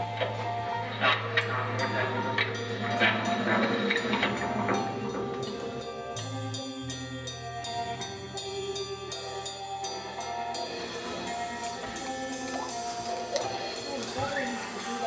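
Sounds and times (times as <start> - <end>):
drum strikes: 0.0 - 8.5, 9.8 - 15.0.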